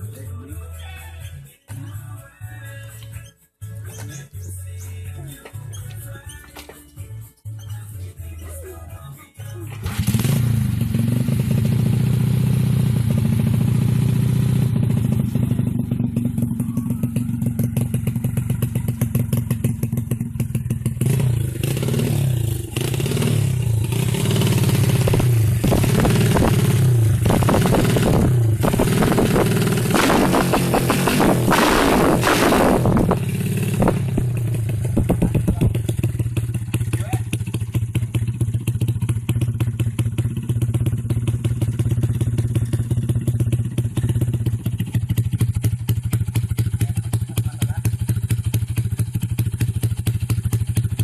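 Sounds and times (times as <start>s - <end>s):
motorcycle engine idling and revving: 0.0s - 51.0s.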